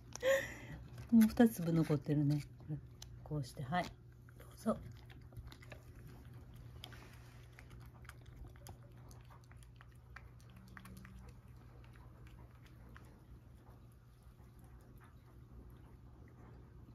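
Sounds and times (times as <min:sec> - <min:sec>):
cat crunching dry food: 0:00.0 - 0:15.9.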